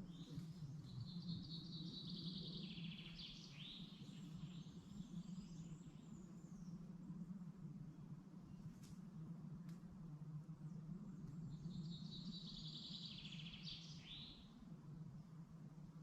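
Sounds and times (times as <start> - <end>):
faint low rumble: 0.0 - 16.0.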